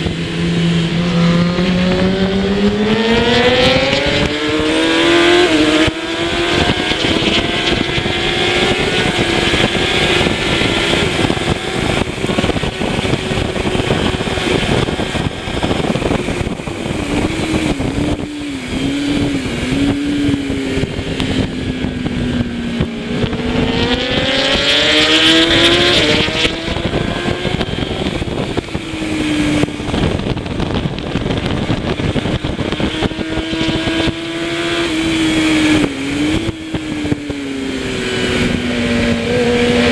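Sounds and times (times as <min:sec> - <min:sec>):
heavy wind noise: 0:00.0 - 0:39.9
motorcycle engine at speed: 0:00.0 - 0:39.9.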